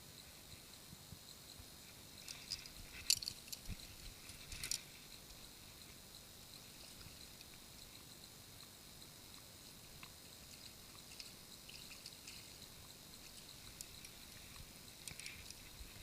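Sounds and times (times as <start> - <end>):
faint small clicks and rattles: 0.2 - 16.0.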